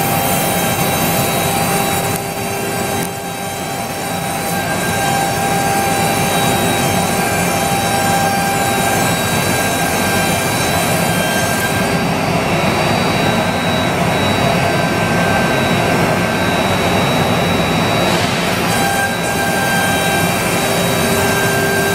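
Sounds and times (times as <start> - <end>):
router cutting wood: 0.0 - 21.9
router spindle whine: 0.0 - 21.9.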